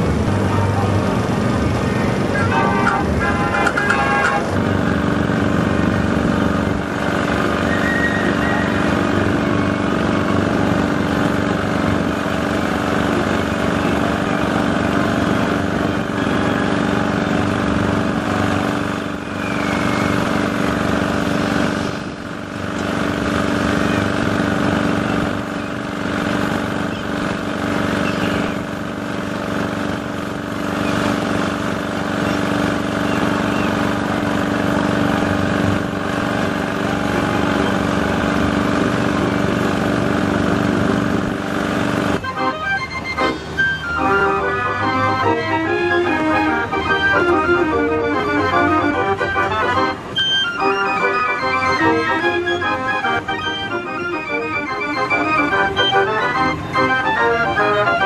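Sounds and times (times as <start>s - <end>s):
steam engine running: 0.0s - 58.0s.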